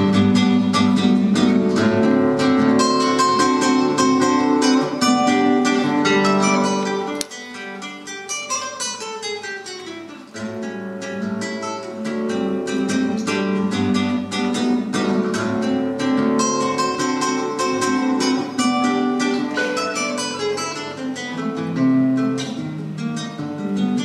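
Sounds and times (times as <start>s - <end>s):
nylon-string guitar fingerstyle: 0.0s - 24.0s.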